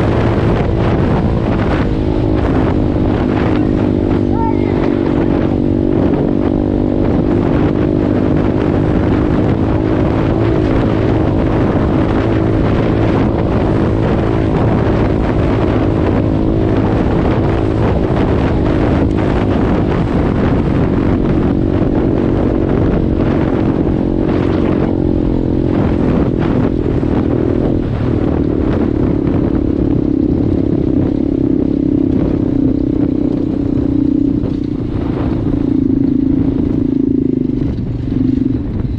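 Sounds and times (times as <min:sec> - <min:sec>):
motorbike engine running: 0:00.0 - 0:38.9
wind rushing over microphone: 0:00.0 - 0:38.9.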